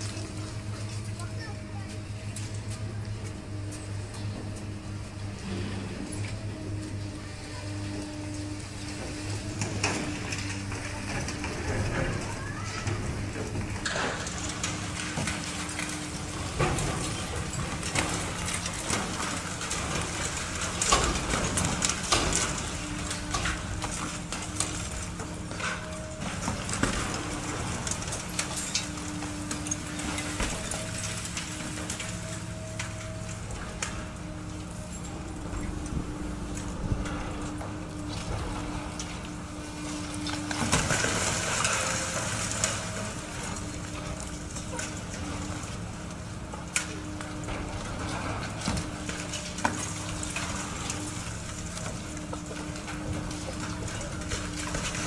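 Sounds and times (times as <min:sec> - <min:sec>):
excavator engine running: 0:00.0 - 0:55.0
machine hum: 0:00.0 - 0:55.0.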